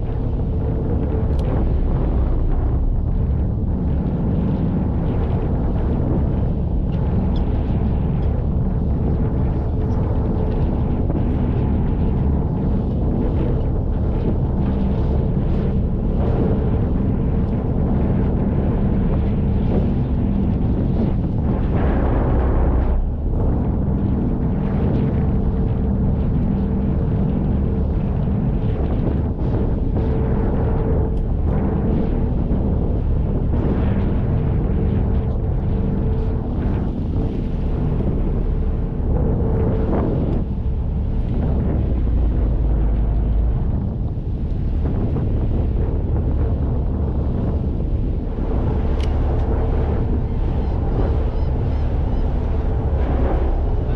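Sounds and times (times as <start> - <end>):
boat engine droning: 0.0 - 53.9
wind buffeting microphone: 0.0 - 53.9
sea noise: 10.7 - 53.9.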